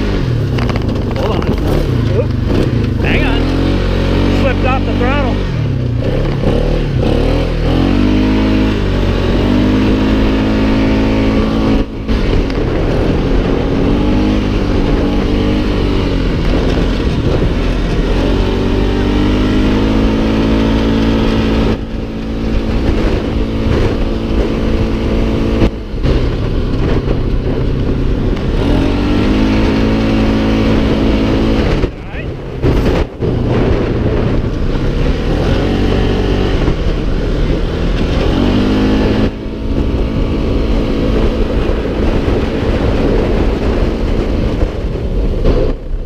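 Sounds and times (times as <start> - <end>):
atv engine revving: 0.0 - 46.0.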